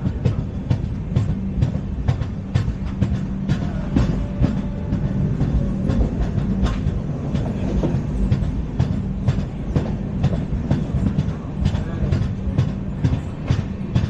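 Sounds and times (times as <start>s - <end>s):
steady low hum: 0.0s - 14.0s
train wheels rumbling on track: 0.0s - 14.0s.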